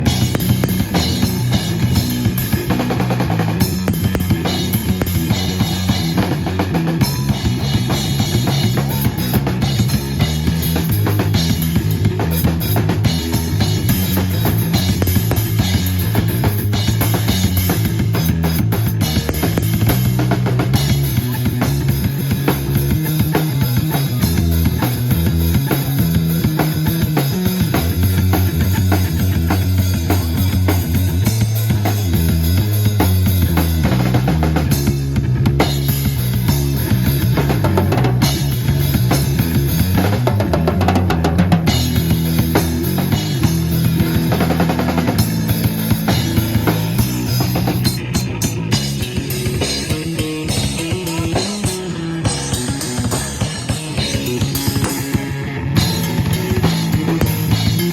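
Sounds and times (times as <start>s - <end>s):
bass line: 0.0s - 57.9s
drum kit: 0.0s - 57.9s
guitar: 0.0s - 57.9s.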